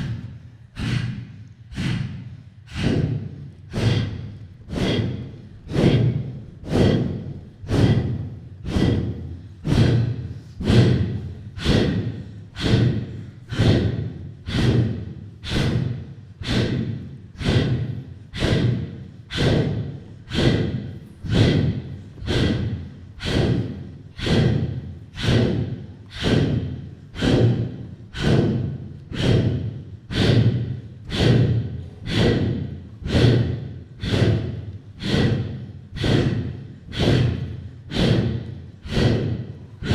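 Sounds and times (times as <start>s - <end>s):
forceful rhythmic breaths: 0.0s - 39.9s.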